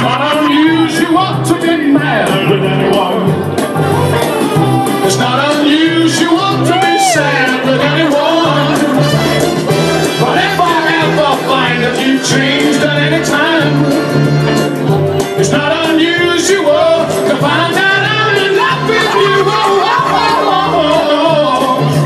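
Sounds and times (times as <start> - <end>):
man singing into a microphone: 0.0 - 14.4, 15.2 - 22.0.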